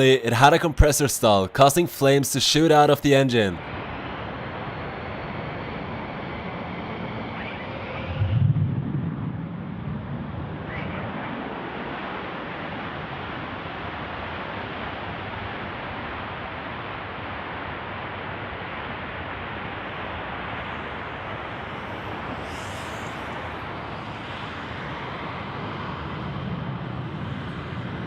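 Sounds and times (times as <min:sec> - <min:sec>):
distant jet engines rushing: 0:00.0 - 0:28.0.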